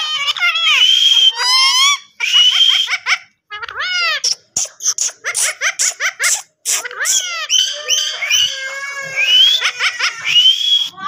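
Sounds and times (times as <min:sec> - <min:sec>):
parakeet squawking and chattering: 0:00.0 - 0:11.0.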